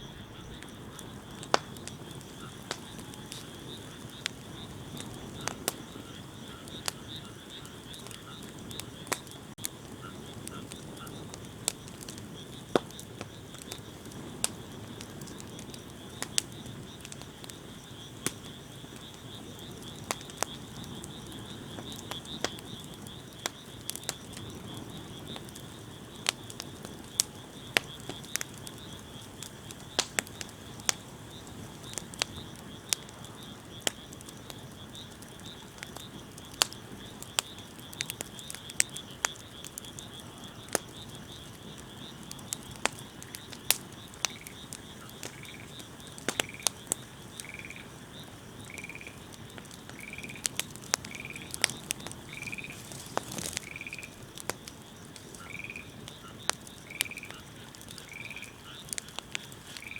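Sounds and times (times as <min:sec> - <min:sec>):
insects or frogs trilling: 0:00.0 - 0:59.9
wood fire crackling and popping: 0:00.0 - 0:59.9.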